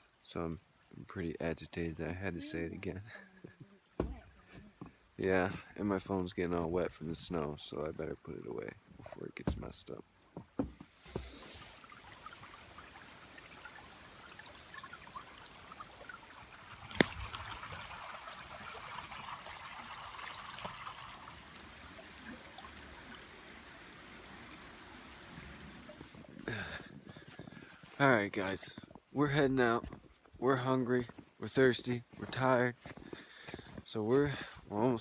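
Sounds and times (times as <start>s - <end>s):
small creek flowing: 0.0s - 35.0s.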